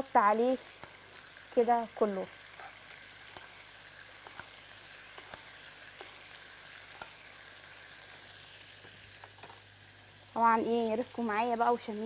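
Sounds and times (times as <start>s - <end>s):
steak sizzling in a pan: 0.0s - 12.0s.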